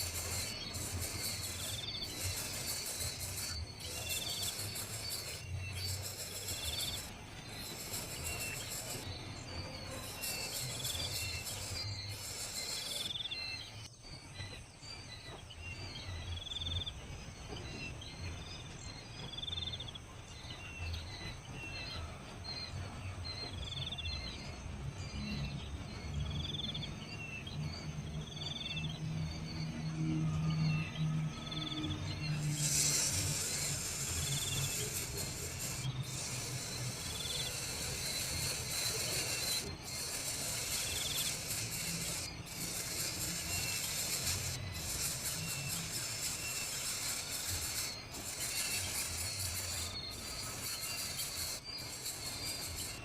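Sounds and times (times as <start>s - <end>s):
insects buzzing and trilling: 0.0s - 53.0s.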